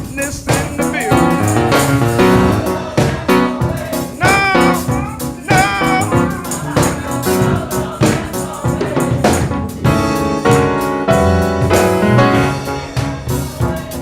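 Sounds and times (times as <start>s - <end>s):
people singing: 0.0s - 11.2s, 11.8s - 14.0s
gospel band playing: 0.0s - 14.0s.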